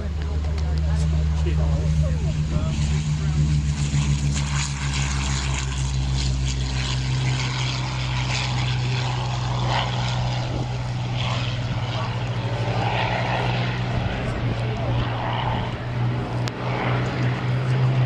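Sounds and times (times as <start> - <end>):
piston aircraft engine droning: 0.0 - 18.0
propeller noise: 0.0 - 18.0.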